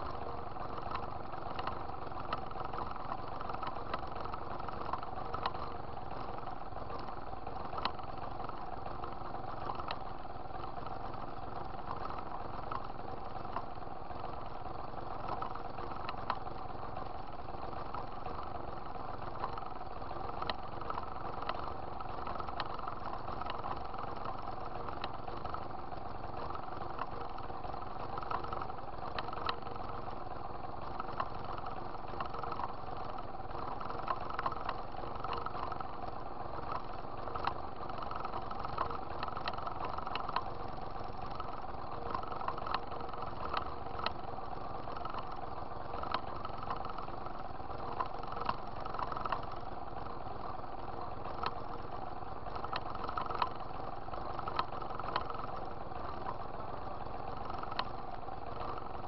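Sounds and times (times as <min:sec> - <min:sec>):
light ticks: 0:00.0 - 0:59.0.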